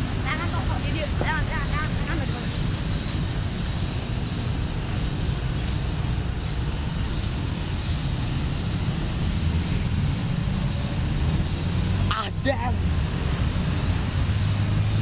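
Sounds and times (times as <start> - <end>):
wind on microphone: 0.0 - 12.1
faint pulsing high hiss: 0.0 - 15.0.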